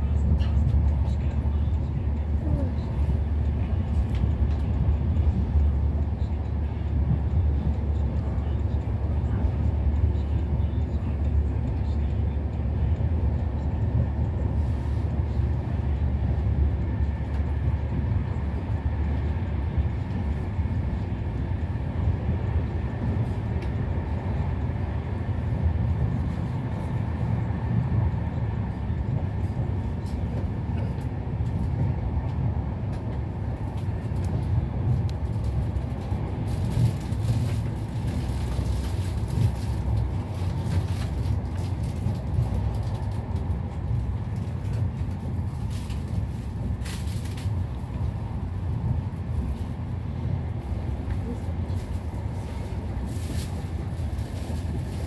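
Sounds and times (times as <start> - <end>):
train rumble and rail noise: 0.0 - 55.0.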